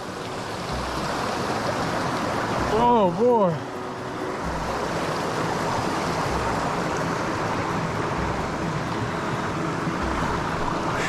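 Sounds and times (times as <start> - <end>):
mountain creek rushing: 0.0 - 11.0.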